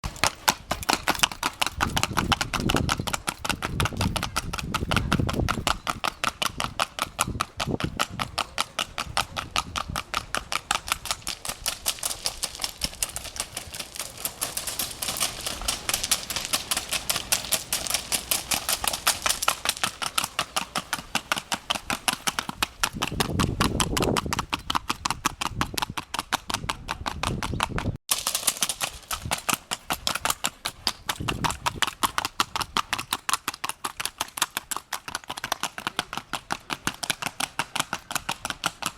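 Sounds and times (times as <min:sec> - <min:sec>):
horse hooves clicking: 0:00.0 - 0:38.9.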